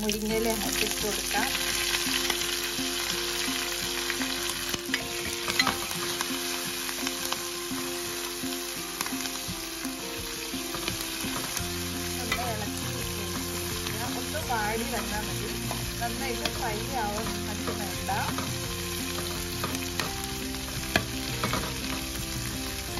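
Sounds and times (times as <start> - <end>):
leaves sizzling in hot oil: 0.0 - 22.9.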